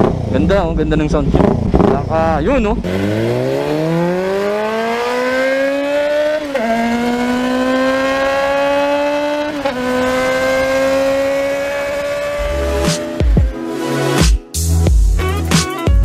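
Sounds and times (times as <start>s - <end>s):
engine accelerating through gears: 0.0s - 13.4s.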